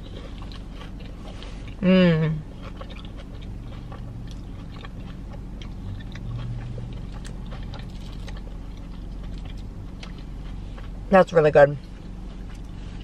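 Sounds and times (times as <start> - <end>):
close chewing with wet clicks: 0.0 - 13.0
low steady hum: 0.0 - 13.0.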